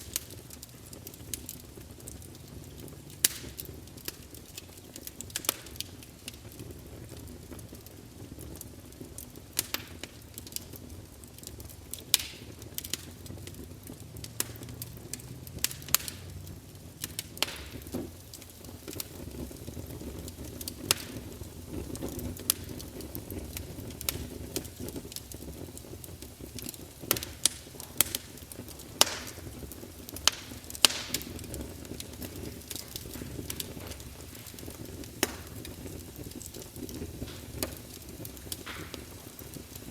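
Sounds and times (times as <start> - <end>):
burning wood crackling: 0.0 - 39.9
campfire flames rumbling: 0.0 - 39.9.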